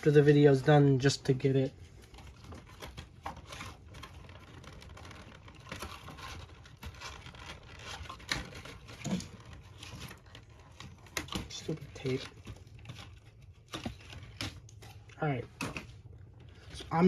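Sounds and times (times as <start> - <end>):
packaging rustling and crinkling: 0.0 - 17.0.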